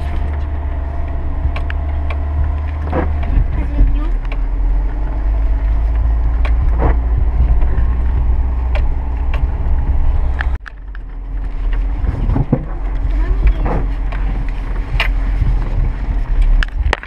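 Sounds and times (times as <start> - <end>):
car body knocks and rattles: 0.0 - 17.0
car engine droning: 0.0 - 17.0.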